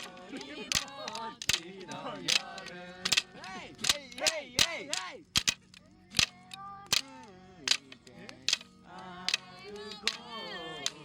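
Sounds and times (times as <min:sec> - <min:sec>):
bonfire crackling and popping: 0:00.0 - 0:11.0
people's voices: 0:00.0 - 0:11.0.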